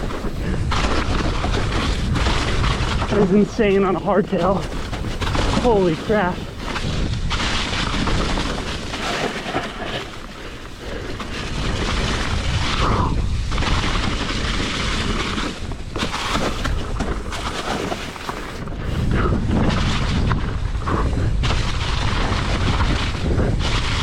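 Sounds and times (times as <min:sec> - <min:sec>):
bike tyres and chain rattling: 0:00.0 - 0:24.0
wind rumbling on microphone: 0:00.0 - 0:24.0.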